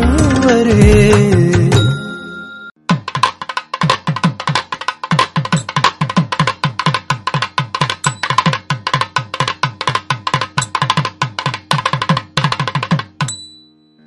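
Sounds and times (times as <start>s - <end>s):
fast hand drum rhythm: 0.0s - 1.8s, 2.9s - 13.3s.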